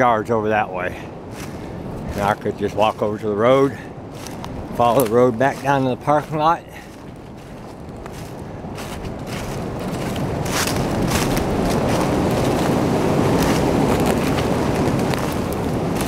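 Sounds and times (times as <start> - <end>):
steady rushing noise: 0.0 - 16.0
footsteps crunching dry leaves: 1.3 - 16.0.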